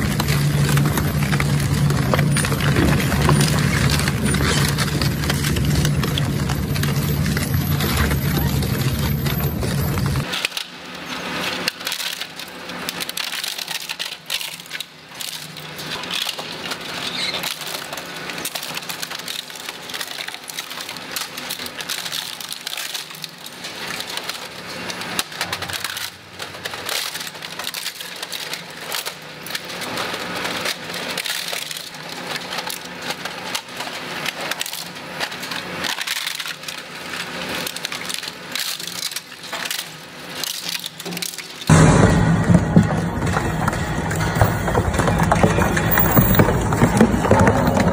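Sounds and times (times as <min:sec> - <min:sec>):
plastic cracking and splintering: 0:00.0 - 0:09.4, 0:10.0 - 0:41.7
shredder machine hum: 0:00.0 - 0:47.9.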